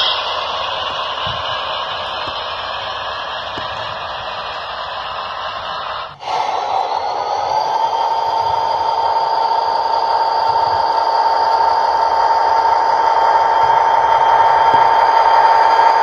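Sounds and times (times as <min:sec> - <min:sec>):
high motor whine: 0:00.0 - 0:16.0
model train wheels rolling: 0:00.0 - 0:16.0.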